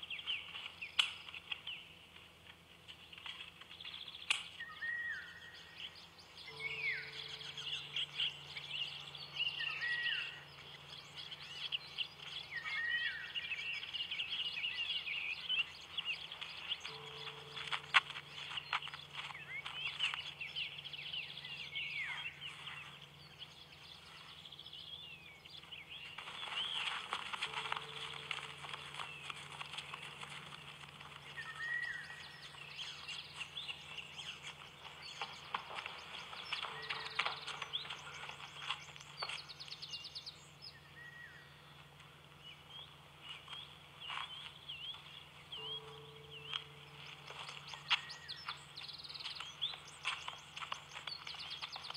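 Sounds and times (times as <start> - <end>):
low hum: 0.0 - 51.9
small birds chirping: 0.0 - 51.9.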